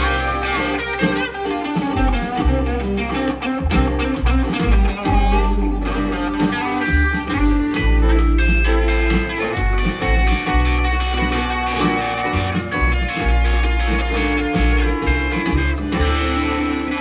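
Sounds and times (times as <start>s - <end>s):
bass line: 0.0s - 17.0s
electric guitar solo: 0.0s - 17.0s
strummed acoustic guitar: 0.0s - 17.0s.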